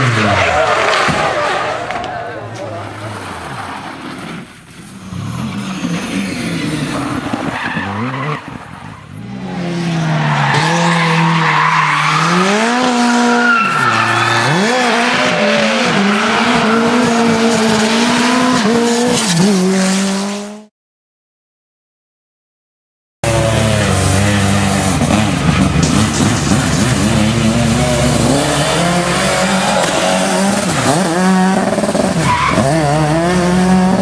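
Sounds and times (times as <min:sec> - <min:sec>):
tyres skidding: 0:00.0 - 0:20.3, 0:23.2 - 0:34.0
rally car engines revving: 0:00.0 - 0:20.7, 0:23.2 - 0:34.0.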